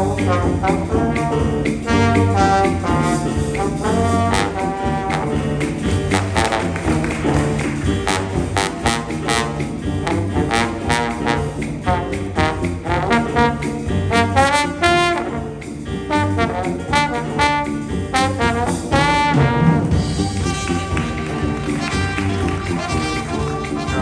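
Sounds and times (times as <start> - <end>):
band with brass horns playing: 0.0 - 24.0
steady drumbeat: 0.0 - 24.0.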